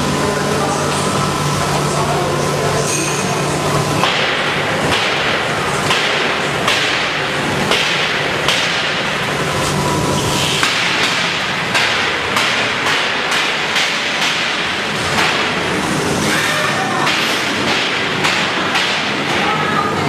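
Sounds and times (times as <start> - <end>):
popcorn machine humming: 0.0 - 20.0.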